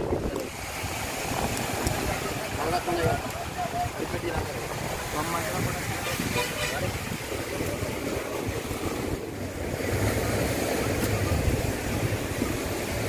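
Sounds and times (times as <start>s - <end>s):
beach surf: 0.0s - 13.0s
wind buffeting microphone: 0.0s - 13.0s.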